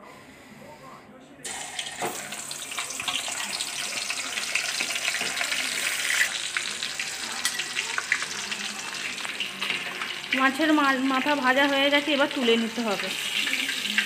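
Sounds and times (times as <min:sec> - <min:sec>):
fish frying in hot oil: 0:01.5 - 0:14.0.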